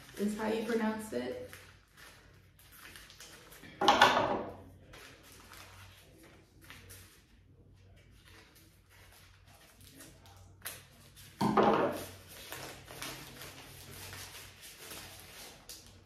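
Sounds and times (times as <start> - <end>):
paper crinkling and rustling: 0.0 - 3.8, 4.6 - 16.0.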